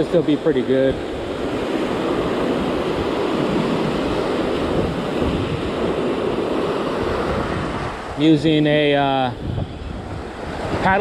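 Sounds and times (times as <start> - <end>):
small waves breaking: 0.0 - 11.0
whitewash washing up sand: 0.0 - 11.0
wind buffeting microphone: 0.0 - 11.0.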